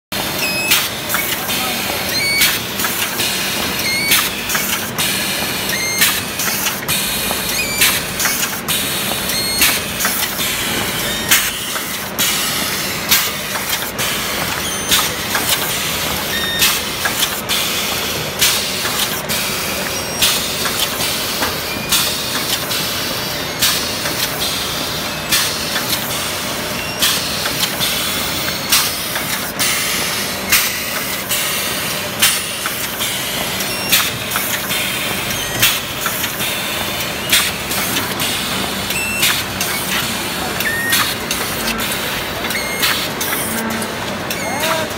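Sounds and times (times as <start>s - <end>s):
machine running noise: 0.1s - 44.9s.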